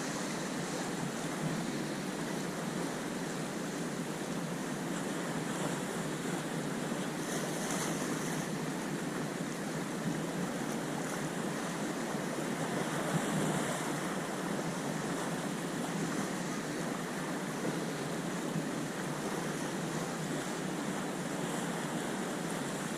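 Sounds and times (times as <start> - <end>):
sea waves washing on shore: 0.0 - 22.9.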